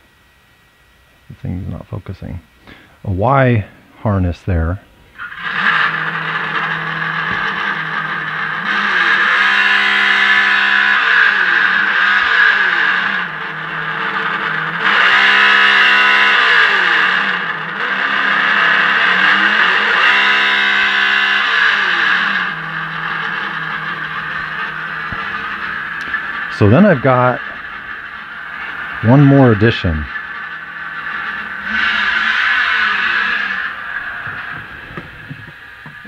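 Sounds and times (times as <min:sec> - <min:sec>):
simulated engine revving: 0:05.1 - 0:36.0.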